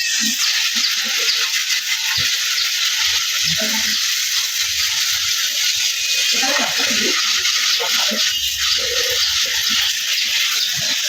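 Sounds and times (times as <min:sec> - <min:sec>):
water spraying hiss: 0:00.0 - 0:11.0.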